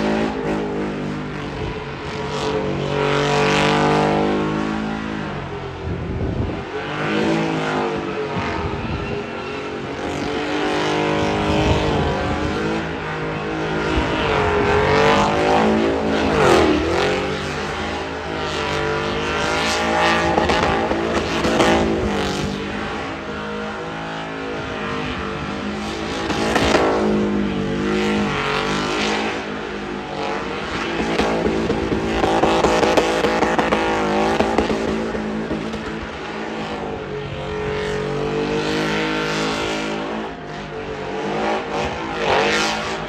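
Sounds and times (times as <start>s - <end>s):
truck engines revving: 0.0s - 43.0s.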